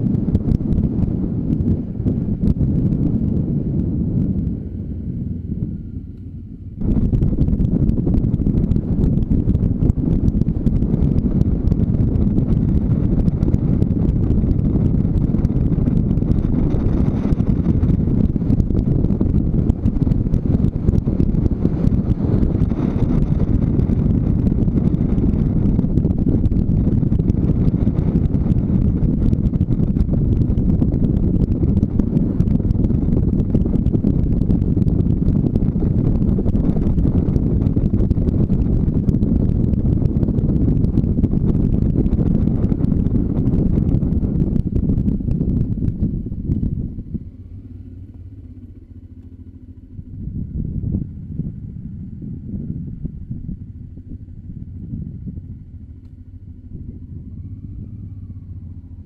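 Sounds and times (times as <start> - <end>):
motorcycle engine rumble: 0.0 - 59.0
wind buffeting microphone: 0.0 - 59.0.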